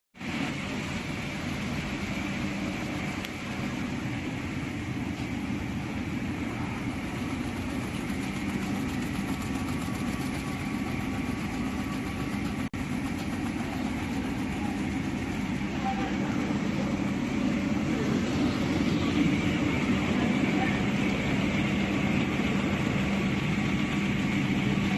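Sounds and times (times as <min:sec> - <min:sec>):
machinery humming: 0:00.2 - 0:24.9.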